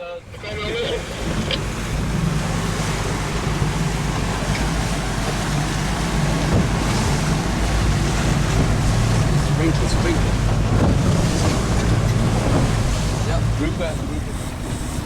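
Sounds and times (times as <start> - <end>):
boat engine running: 0.0 - 15.0
water rushing: 0.0 - 15.0
wind: 0.0 - 15.0.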